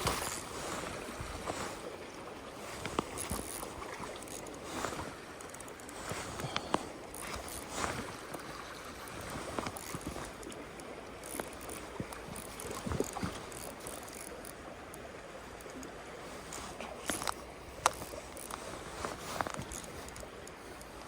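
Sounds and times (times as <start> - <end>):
mountain stream flowing: 0.0 - 21.0.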